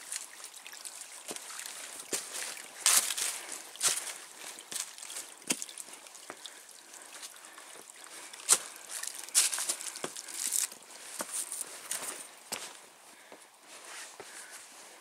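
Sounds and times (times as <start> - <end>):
footsteps on rocks and stones: 1.3 - 7.4, 8.1 - 14.4.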